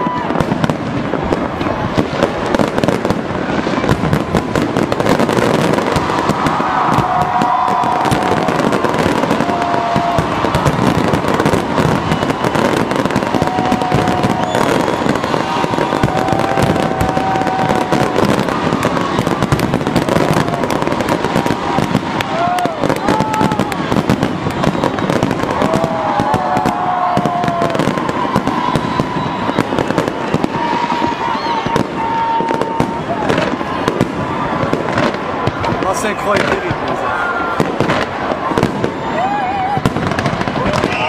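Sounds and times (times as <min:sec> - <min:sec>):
firecrackers popping and crackling: 0:00.0 - 0:41.0.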